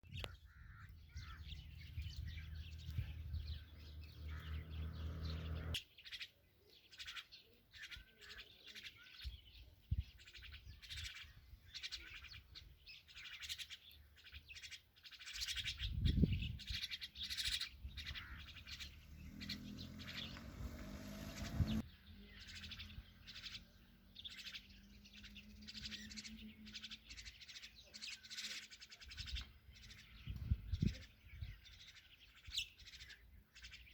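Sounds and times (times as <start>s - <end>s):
birds chirping rapidly: 0.0s - 33.9s.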